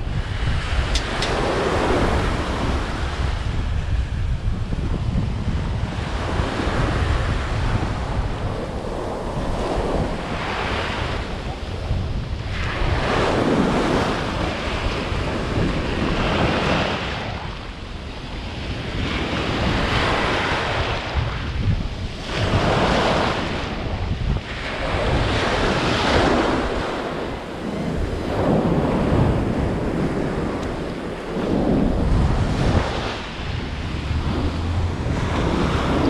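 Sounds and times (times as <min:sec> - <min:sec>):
surf waves washing up sand: 0:00.0 - 0:36.0
wind buffeting microphone: 0:00.0 - 0:36.0.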